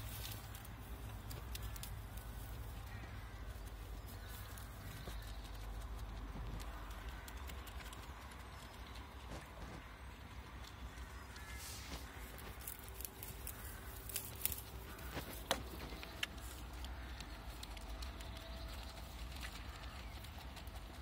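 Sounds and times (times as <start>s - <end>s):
lambs crunching pellets: 0.0s - 21.0s
steady low rumble: 0.0s - 21.0s.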